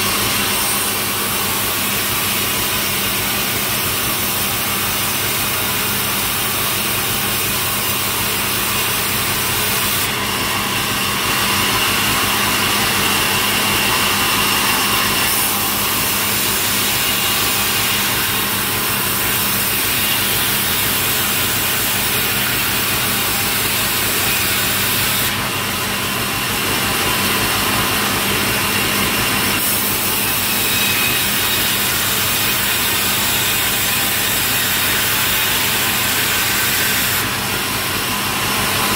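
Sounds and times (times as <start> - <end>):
saw blade cutting log: 0.0 - 38.9
sawmill engine hum: 0.0 - 38.9.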